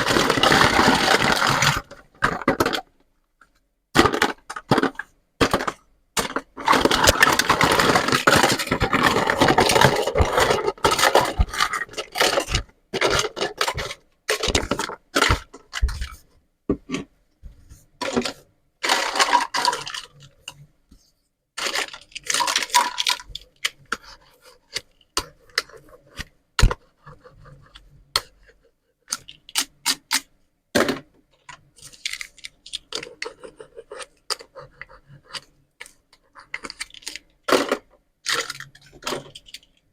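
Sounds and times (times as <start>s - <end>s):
plastic toys scraping and rustling: 0.0s - 3.0s, 4.0s - 16.3s, 17.7s - 30.2s, 31.4s - 39.9s
plastic toys clicking and knocking: 0.0s - 17.1s, 18.0s - 20.7s, 21.6s - 39.9s.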